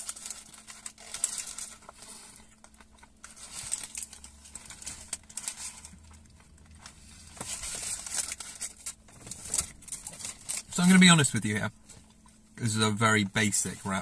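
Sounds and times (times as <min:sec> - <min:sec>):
food wrap packaging crinkling: 0:00.0 - 0:12.5.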